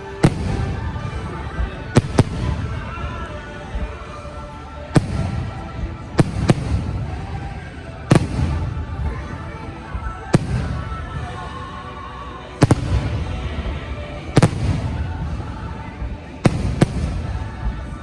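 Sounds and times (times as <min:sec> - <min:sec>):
fireworks bangs: 0:00.0 - 0:11.8, 0:12.6 - 0:18.0
music over loudspeakers: 0:00.0 - 0:18.0.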